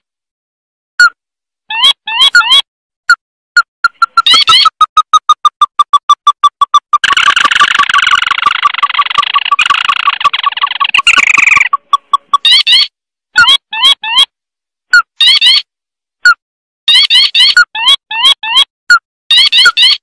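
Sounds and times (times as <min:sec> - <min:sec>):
crake calls and trills: 0:01.0 - 0:14.3, 0:15.0 - 0:18.7, 0:19.3 - 0:20.0.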